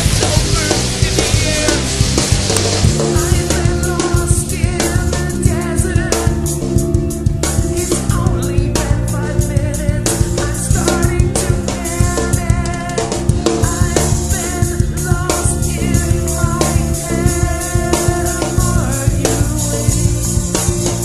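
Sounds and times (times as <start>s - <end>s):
drum kit steady beat: 0.0s - 21.0s
held bass and instrument notes: 0.0s - 21.0s.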